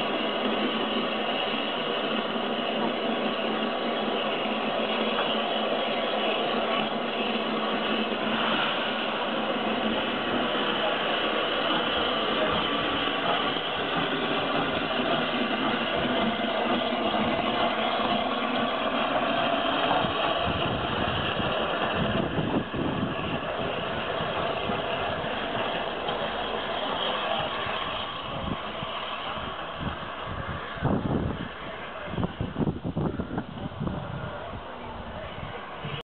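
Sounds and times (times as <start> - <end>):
heavy exhaust beats: 0.0 - 36.0
steam locomotive hissing steam: 0.0 - 36.0.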